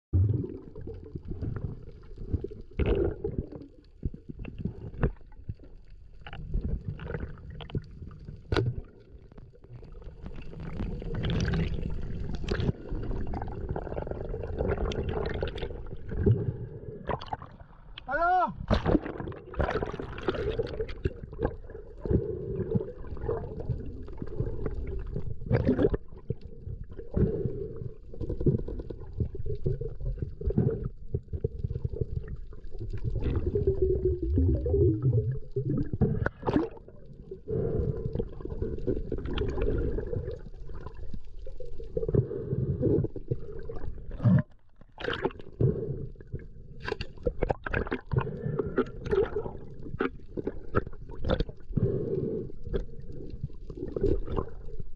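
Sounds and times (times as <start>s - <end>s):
muffled underwater water gurgling: 0.2s - 54.9s.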